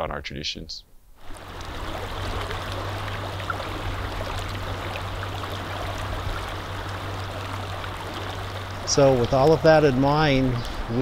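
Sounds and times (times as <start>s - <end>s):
river flowing over rocks: 1.2s - 11.0s
water gurgles: 1.2s - 11.0s.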